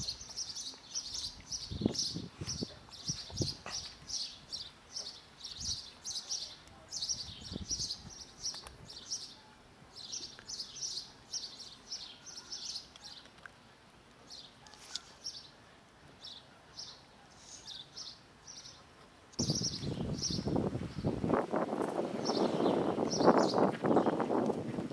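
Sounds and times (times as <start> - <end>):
small birds chirping: 0.0 - 13.4, 16.2 - 21.2, 22.2 - 24.2.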